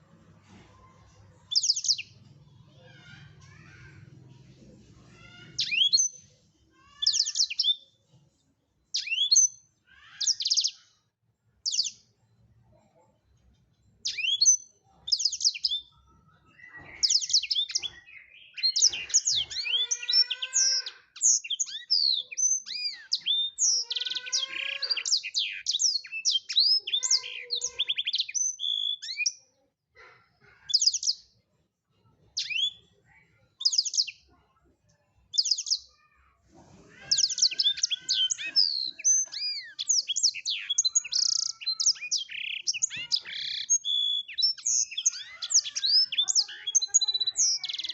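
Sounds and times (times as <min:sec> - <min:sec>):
canary singing chirps and trills: 0:00.0 - 0:47.9.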